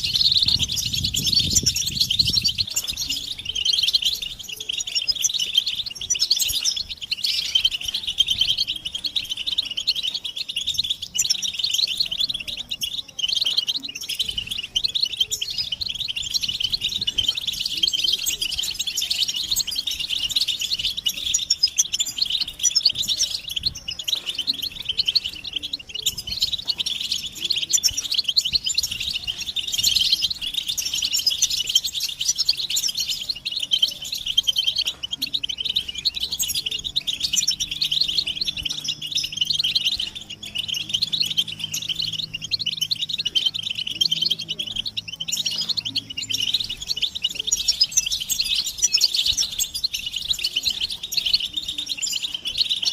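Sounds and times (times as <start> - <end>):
goldfinches twittering: 0.0 - 52.9.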